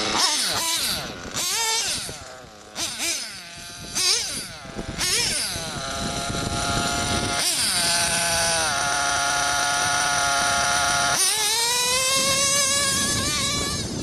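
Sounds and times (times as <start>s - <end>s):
nitro engine revving: 0.0s - 14.0s.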